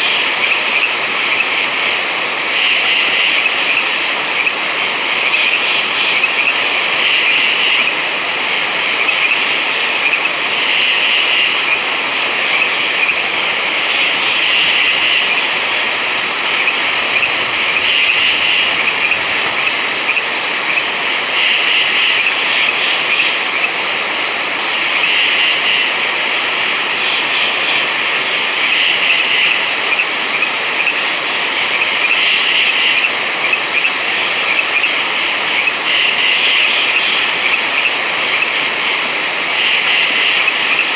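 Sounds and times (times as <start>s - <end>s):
chorus of frogs calling: 0.0s - 40.9s.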